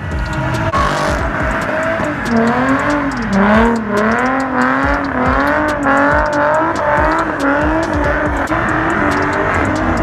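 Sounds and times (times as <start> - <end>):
car engine at high revs: 0.0 - 10.0
tyres spinning in burnout: 0.0 - 10.0.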